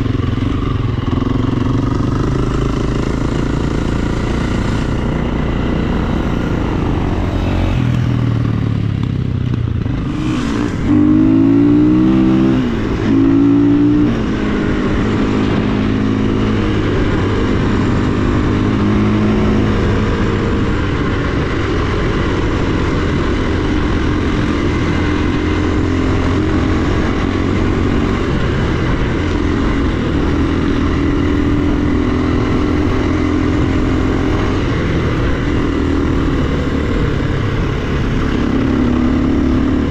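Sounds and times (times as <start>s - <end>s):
dirt bike engine revving: 1.0s - 39.9s.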